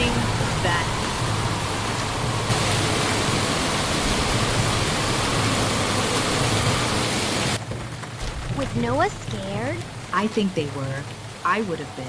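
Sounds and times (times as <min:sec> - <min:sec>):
heavy rain: 0:00.0 - 0:12.0
rushing water: 0:00.0 - 0:12.0.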